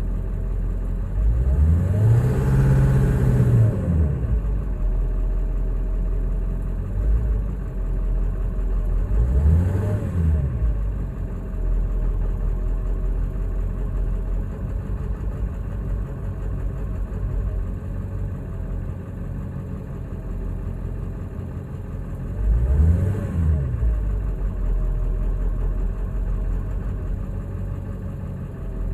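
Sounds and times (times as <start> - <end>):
diesel engine idling rough: 0.0 - 28.9.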